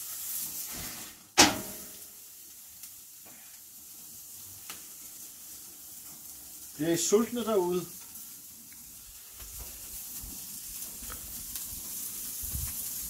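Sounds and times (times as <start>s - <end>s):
steak sizzling on a grill: 0.0s - 13.0s.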